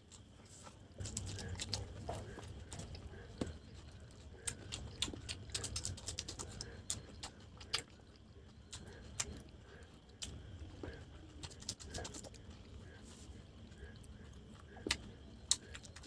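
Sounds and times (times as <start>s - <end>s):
chewing and mouth noises: 0.0s - 16.0s.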